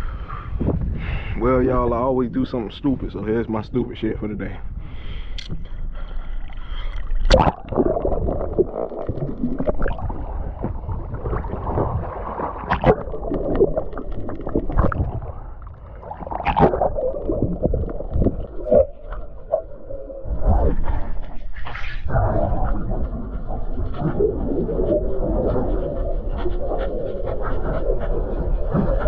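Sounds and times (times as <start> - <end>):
water sloshing and gurgling: 4.7 - 29.0.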